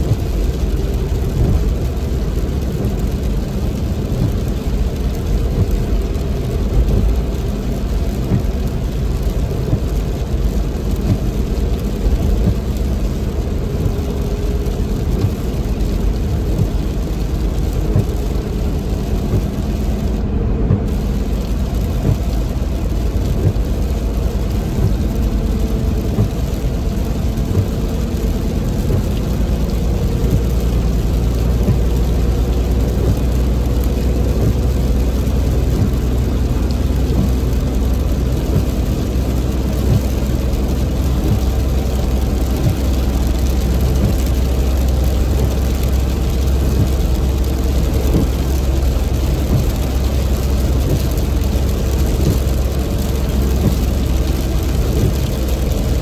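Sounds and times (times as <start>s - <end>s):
car engine and tyres droning: 0.0s - 56.0s
rain hitting windscreen: 0.0s - 56.0s.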